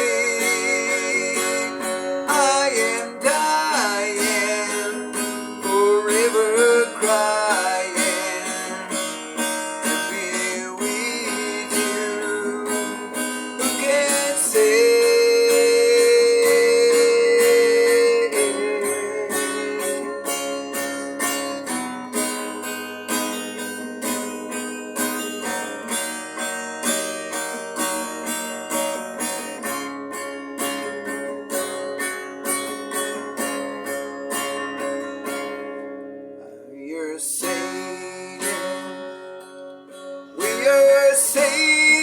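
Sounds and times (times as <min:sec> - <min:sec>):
guitar chords plucked and strummed: 0:00.0 - 0:42.0.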